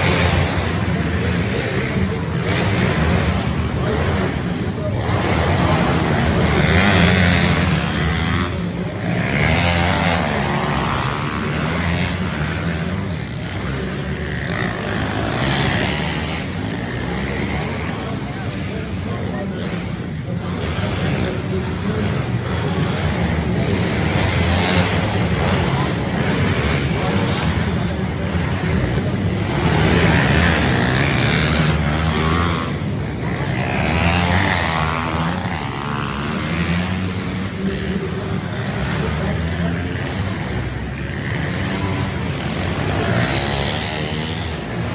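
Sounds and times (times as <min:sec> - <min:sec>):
pit bike engines revving: 0:00.0 - 0:44.9.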